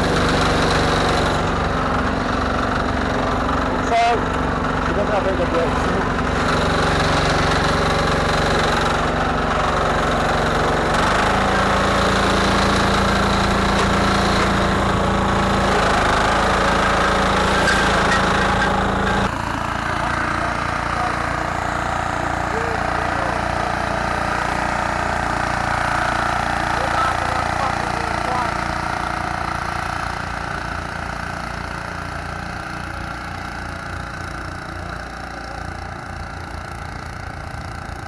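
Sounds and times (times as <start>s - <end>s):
garden tractor engine running: 0.0s - 38.0s.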